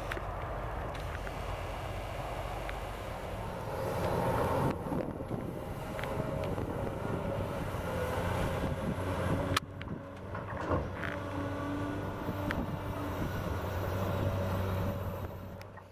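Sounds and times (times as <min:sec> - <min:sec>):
excavator diesel engine under load: 0:00.0 - 0:15.9.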